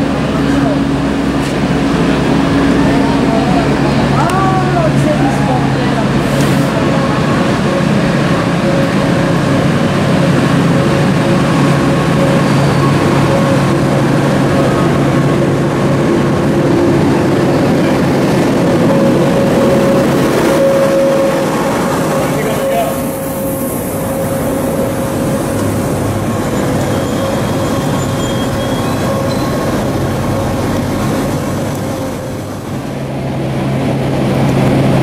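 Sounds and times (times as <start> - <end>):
diesel locomotive engine humming: 0.0 - 35.0
train coaches rolling on rails: 0.0 - 35.0.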